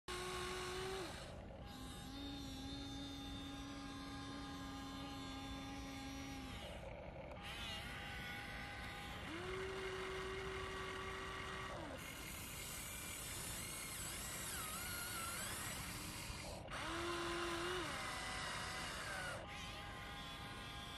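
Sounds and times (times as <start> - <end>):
electric motor whining: 0.1 - 20.9.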